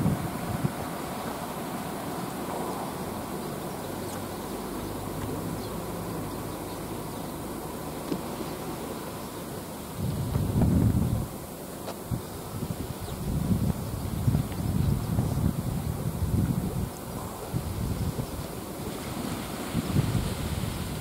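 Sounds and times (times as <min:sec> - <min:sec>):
background rush of noise: 0:00.0 - 0:21.0
low buzzing hum: 0:00.0 - 0:21.0.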